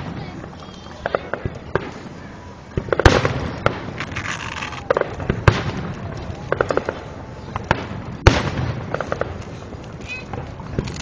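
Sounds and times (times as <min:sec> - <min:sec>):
fireworks sharp bangs: 0:00.0 - 0:10.8
fireworks crackling: 0:00.0 - 0:11.0.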